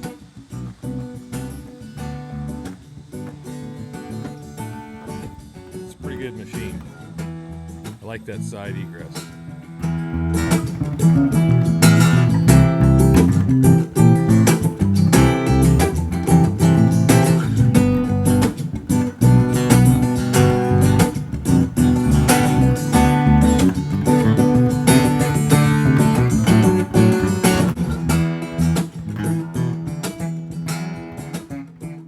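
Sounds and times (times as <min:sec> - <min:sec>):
strummed acoustic guitar: 0:00.0 - 0:32.0
bass line: 0:00.6 - 0:31.6.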